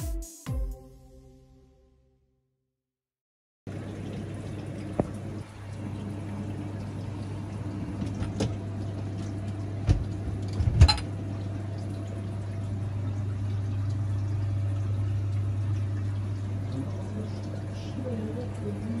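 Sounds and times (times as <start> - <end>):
dishwasher running water: 3.7 - 19.0.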